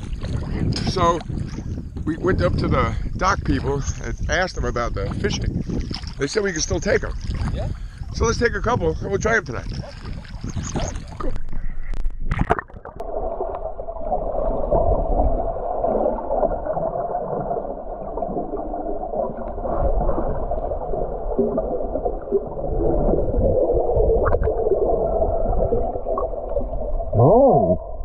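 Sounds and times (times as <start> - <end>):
underwater rushing and gurgling: 0.0 - 28.0.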